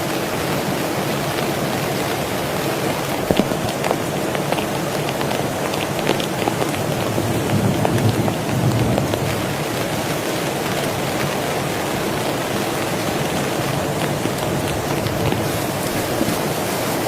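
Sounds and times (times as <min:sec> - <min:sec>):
heavy rain hissing: 0:00.0 - 0:17.0
raindrops tapping: 0:00.4 - 0:17.0.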